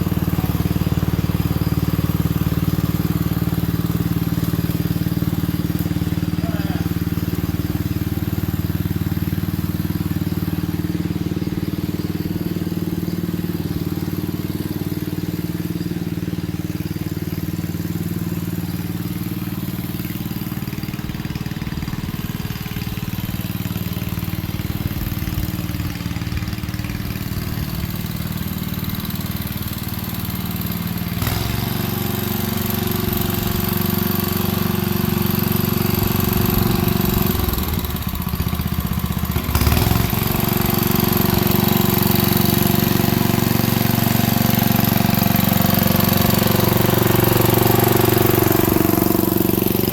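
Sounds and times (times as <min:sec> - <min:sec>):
garden tractor engine running: 0:00.0 - 0:49.9.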